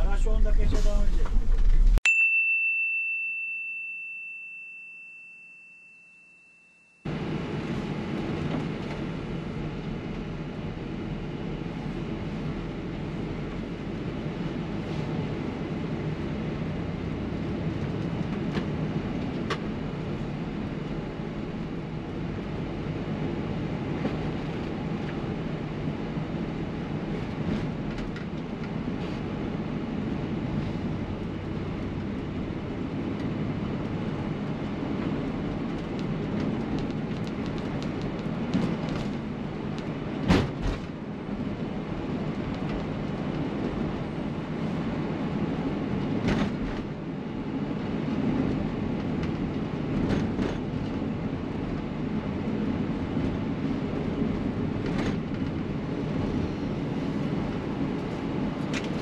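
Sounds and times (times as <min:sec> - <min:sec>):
engine and road rumble: 0:00.0 - 0:02.0, 0:07.0 - 0:59.0.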